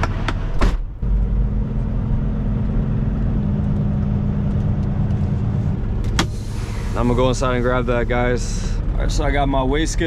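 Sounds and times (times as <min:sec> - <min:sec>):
diesel truck engine droning: 0:00.0 - 0:10.0.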